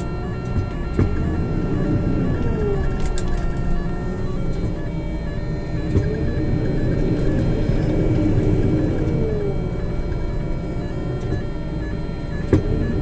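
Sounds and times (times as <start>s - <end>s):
diesel engine and hydraulics straining: 0.0s - 13.0s
engine whine: 0.0s - 13.0s.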